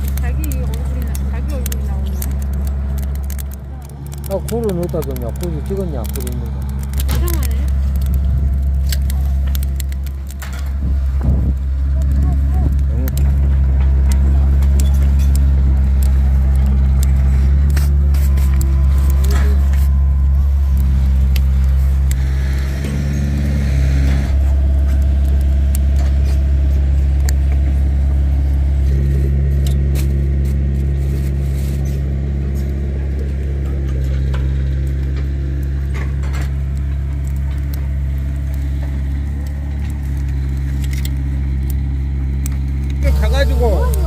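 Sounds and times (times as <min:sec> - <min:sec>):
low engine drone: 0:00.0 - 0:44.0
sharp clicks and crackles: 0:00.0 - 0:44.0.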